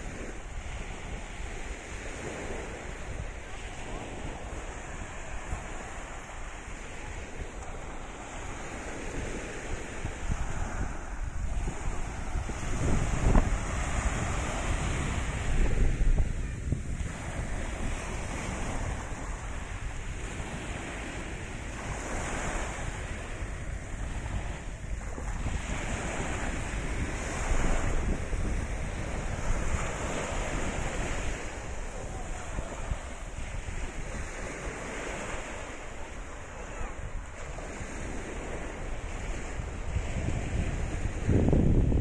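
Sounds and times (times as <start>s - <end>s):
waves breaking on shore: 0.0s - 42.0s
wind buffeting microphone: 0.0s - 42.0s.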